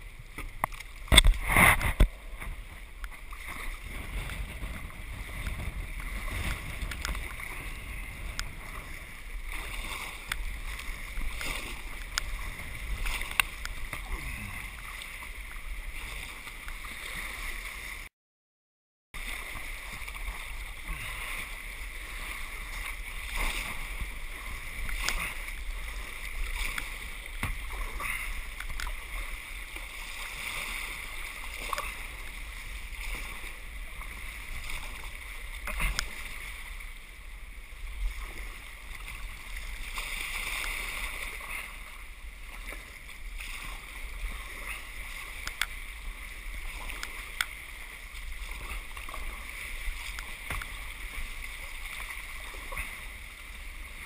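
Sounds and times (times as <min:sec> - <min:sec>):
paddle stroke splashes: 0:00.0 - 0:18.1, 0:19.2 - 0:54.0
sea water sloshing around kayak: 0:00.0 - 0:18.1, 0:19.2 - 0:54.0.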